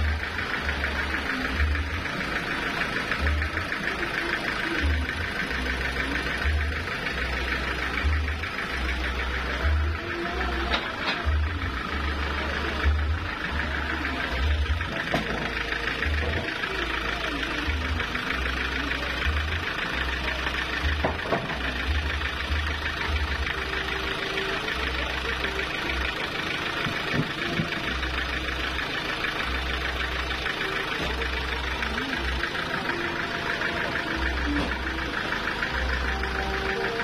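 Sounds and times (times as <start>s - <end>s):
sawmill engine running: 0.0s - 37.0s.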